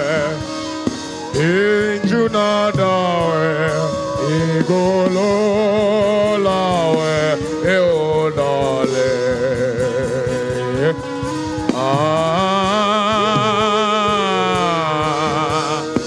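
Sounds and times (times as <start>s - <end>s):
person singing long notes: 0.0s - 16.0s
sustained instrumental backing: 0.0s - 16.0s.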